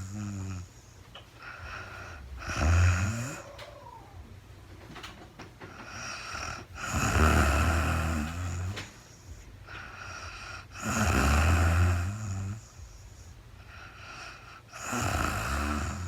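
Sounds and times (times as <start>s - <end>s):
woman snoring: 0.0s - 4.0s, 5.8s - 16.0s
soft breathy breaths: 0.0s - 4.3s, 5.6s - 16.0s.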